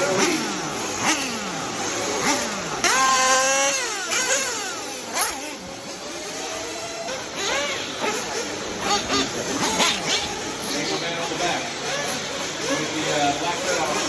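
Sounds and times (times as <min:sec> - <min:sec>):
rc car engines screaming past: 0:00.0 - 0:14.0.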